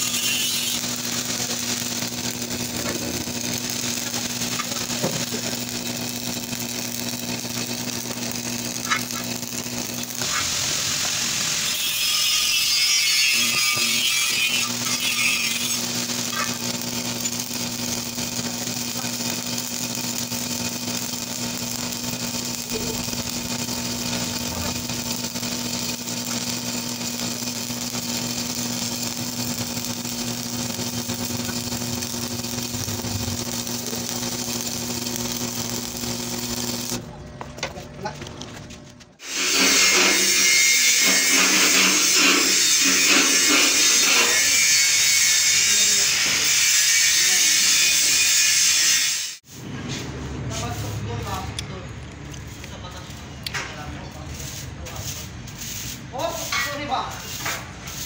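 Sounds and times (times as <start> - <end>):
welding arc crackling: 0.0 - 37.1, 39.2 - 58.0
steady welder hum: 0.0 - 58.0.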